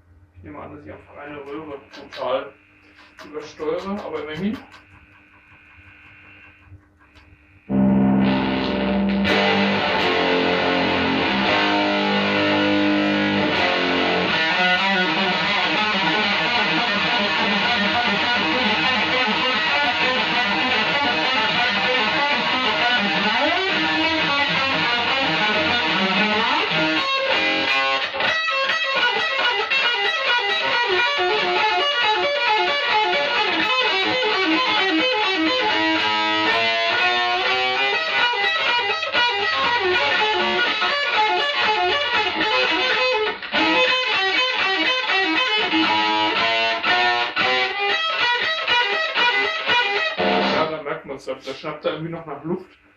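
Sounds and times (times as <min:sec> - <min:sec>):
distorted electric guitar: 0:00.4 - 0:52.7.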